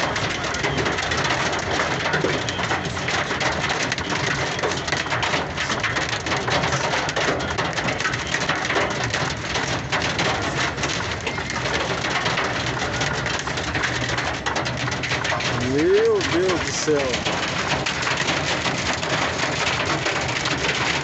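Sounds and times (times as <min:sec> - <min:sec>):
hail and rain on a truck cab: 0:00.0 - 0:21.0.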